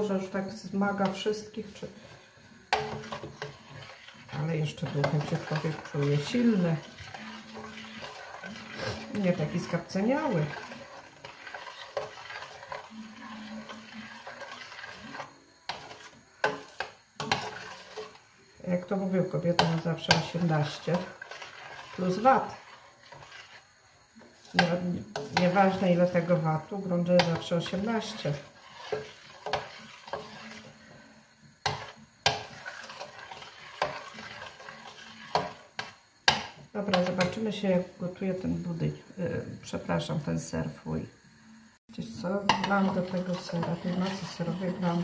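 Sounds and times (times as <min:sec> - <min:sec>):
spoon scraping steel pot: 0:00.8 - 0:18.2, 0:18.8 - 0:23.7, 0:24.3 - 0:31.0, 0:31.6 - 0:37.4, 0:42.4 - 0:45.0.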